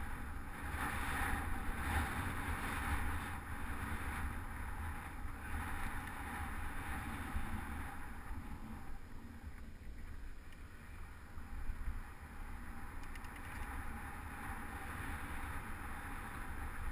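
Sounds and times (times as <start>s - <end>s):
bicycle tyre rumble on road: 0.0s - 16.9s
wind rushing over microphone: 0.0s - 16.9s.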